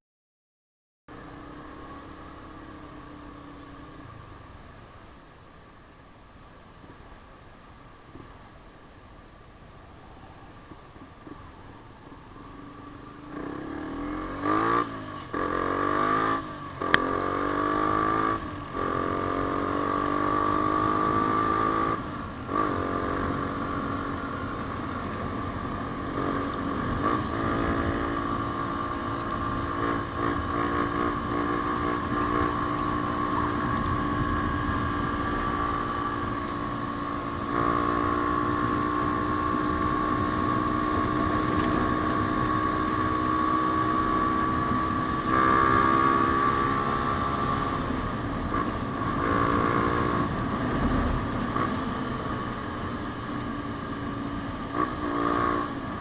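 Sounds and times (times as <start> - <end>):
motorcycle engine accelerating: 1.1 - 4.3, 11.2 - 56.0.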